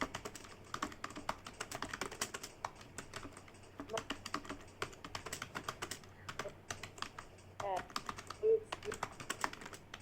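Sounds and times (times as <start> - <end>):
fast keyboard typing: 0.0 - 10.0.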